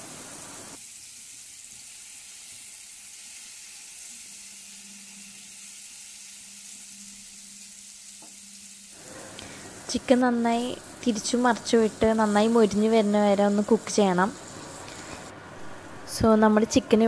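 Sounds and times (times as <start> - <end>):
chicken sizzling in hot oil: 0.0 - 15.3.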